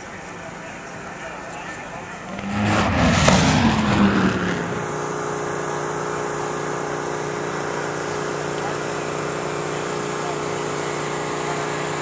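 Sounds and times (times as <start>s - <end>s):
drag racing car engines: 0.0s - 12.0s.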